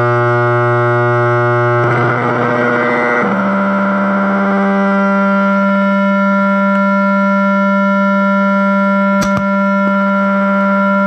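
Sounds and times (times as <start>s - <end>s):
steady electronic drone: 0.0s - 11.0s.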